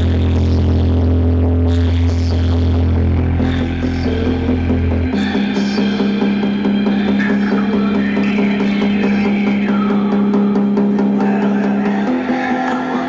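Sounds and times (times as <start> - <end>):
held low synth tone: 0.0 - 13.0
pitch-sliding synth lines: 0.0 - 13.0.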